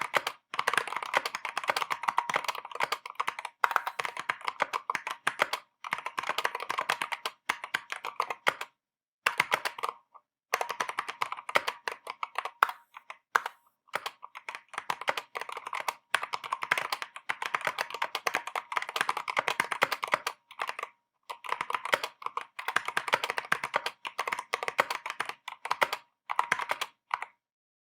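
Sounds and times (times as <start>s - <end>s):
mechanical keyboard typing: 0.0s - 8.7s, 9.3s - 27.3s.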